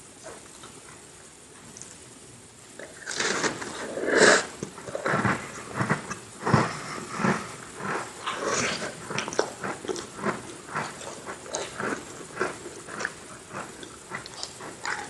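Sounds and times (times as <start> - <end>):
chewing and crunching cookies: 2.7 - 15.0.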